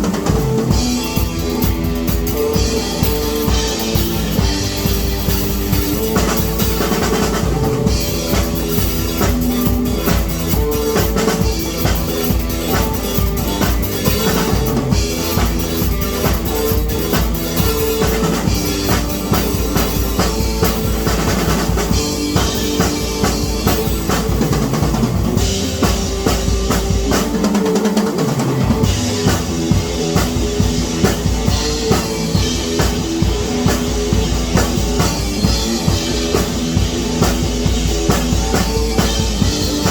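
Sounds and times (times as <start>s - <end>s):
rock music: 0.0s - 39.9s.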